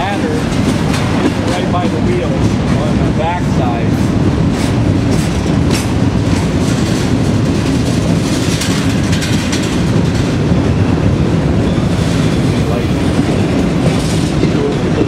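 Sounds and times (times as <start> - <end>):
freight train wheels rumbling: 0.0 - 15.0
train cars clanking: 0.0 - 15.0.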